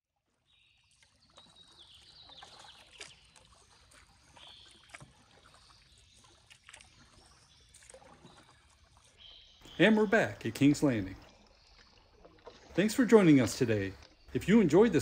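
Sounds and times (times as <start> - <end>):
water trickling off paddle: 0.2 - 15.0
soft paddle dips: 0.3 - 15.0.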